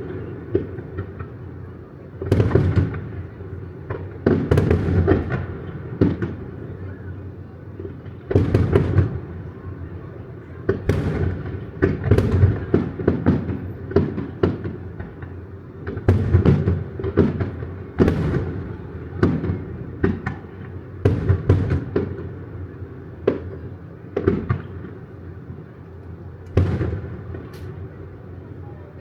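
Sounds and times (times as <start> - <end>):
continuous low rumble: 0.0 - 29.0
fireworks bursts and booms: 0.0 - 29.0.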